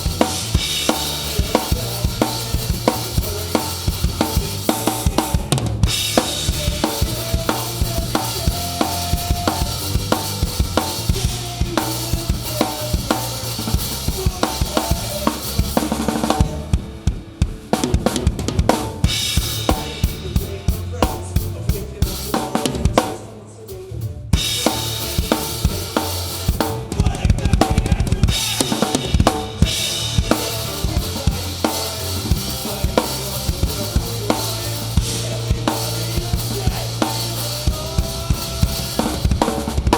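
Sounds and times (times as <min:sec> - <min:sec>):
bass line: 0:00.0 - 0:23.2, 0:23.9 - 0:39.9
live rock band playing: 0:00.0 - 0:39.9.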